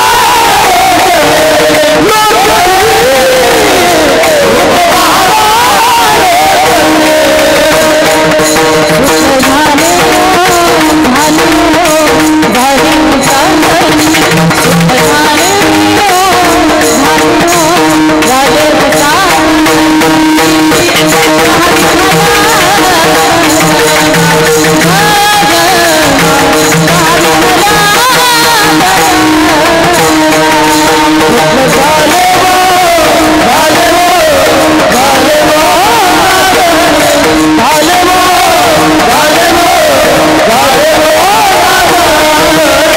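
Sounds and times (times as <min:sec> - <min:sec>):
devotional melody: 0:00.0 - 0:42.9
hand drum: 0:00.0 - 0:42.9
held accompanying notes: 0:00.0 - 0:42.9
woman singing: 0:00.0 - 0:42.9.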